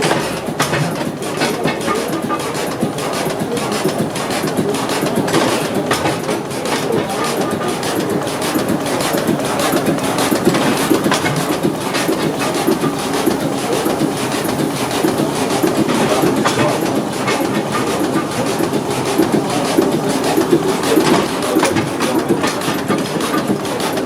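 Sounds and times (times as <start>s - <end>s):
diesel engine rhythmic clatter: 0.0s - 24.0s.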